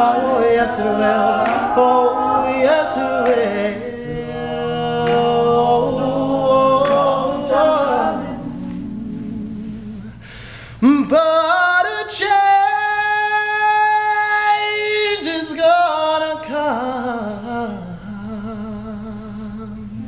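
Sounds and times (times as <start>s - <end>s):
male group singing chords: 0.0s - 20.0s.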